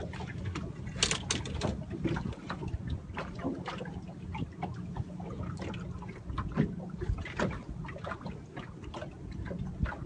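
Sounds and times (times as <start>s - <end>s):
knocks and splashes: 0.0s - 10.0s
water slapping against boat hull: 0.0s - 10.0s
wind rumble on microphone: 0.0s - 10.0s.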